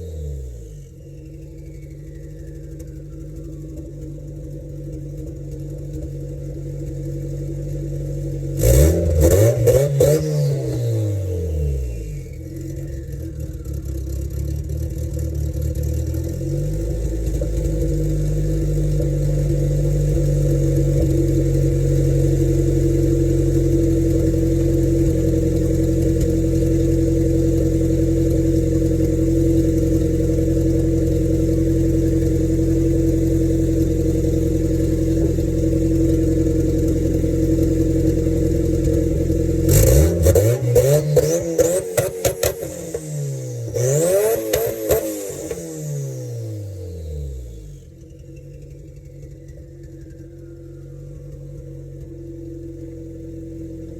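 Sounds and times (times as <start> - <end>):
loud car engine revving: 0.0 - 50.2.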